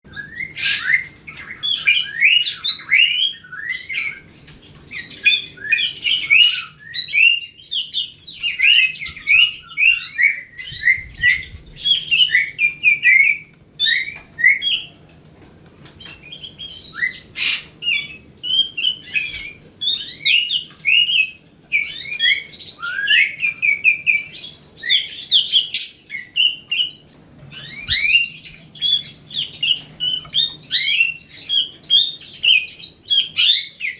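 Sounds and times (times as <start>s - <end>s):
bird singing chirps and whistles: 0.1s - 15.0s, 16.0s - 33.9s.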